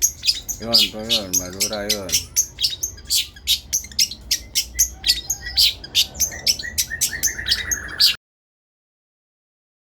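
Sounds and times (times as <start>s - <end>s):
bird chattering song: 0.0s - 8.2s.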